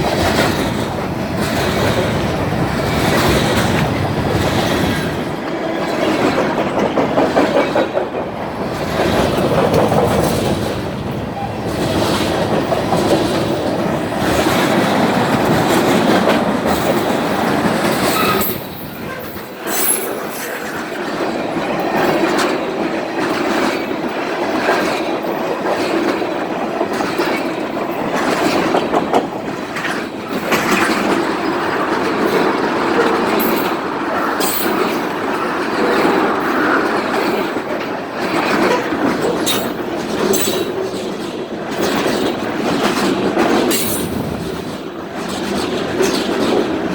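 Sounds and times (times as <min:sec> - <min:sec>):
train wheels clattering: 0:00.0 - 0:46.9.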